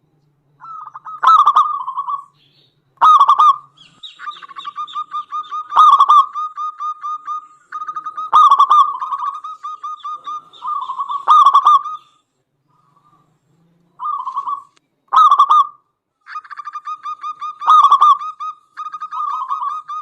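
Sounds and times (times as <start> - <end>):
dove cooing: 0.6 - 20.0.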